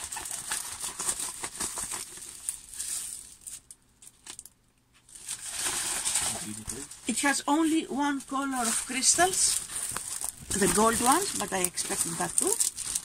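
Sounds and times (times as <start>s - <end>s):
rolled canvas rustling and crinkling: 0.0s - 3.6s, 5.1s - 13.0s.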